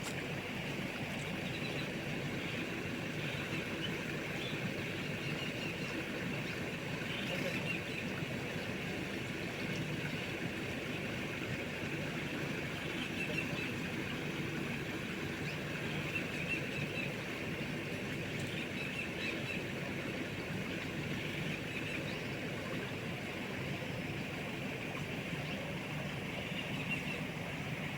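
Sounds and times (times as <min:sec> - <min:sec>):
rushing river water: 0:00.0 - 0:27.9.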